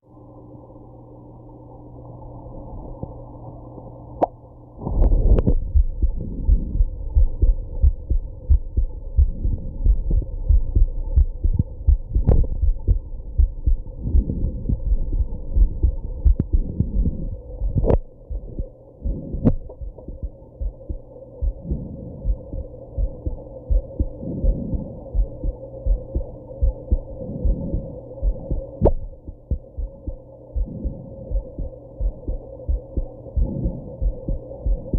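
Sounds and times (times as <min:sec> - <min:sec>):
heartbeat thuds: 0:04.8 - 0:34.9.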